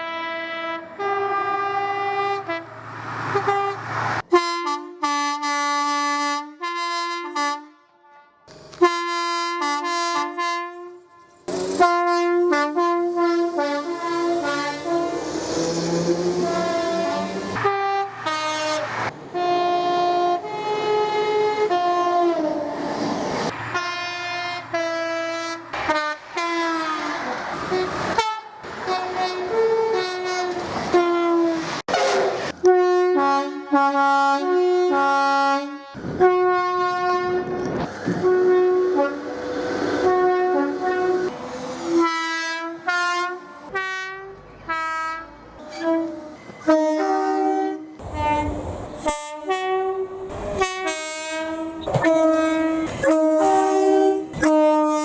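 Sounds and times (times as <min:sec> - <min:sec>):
locomotive horns two-tone blasts: 0:00.0 - 0:22.8, 0:23.5 - 0:55.0.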